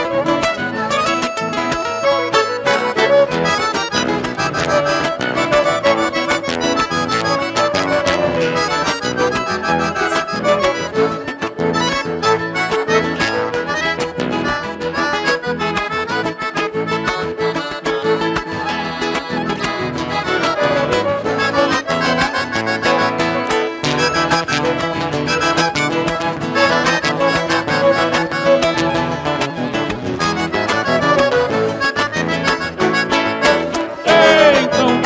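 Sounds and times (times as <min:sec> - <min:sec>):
lively accordion folk dance music: 0:00.0 - 0:35.0.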